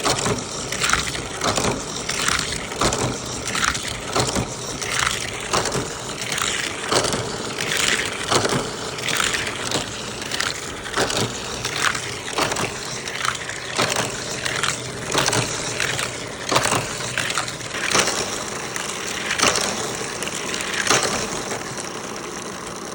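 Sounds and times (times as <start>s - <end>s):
toy cars on plastic track: 0.0s - 22.9s.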